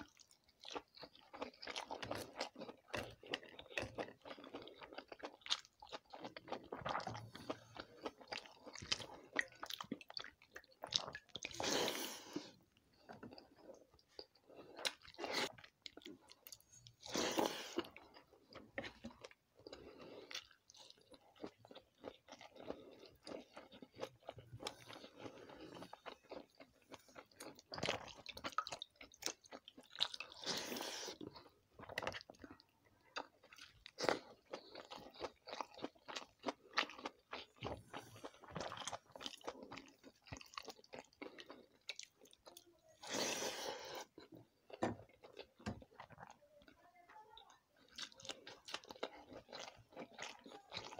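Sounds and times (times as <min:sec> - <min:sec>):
close-up chewing and crunching: 0:00.0 - 0:50.9.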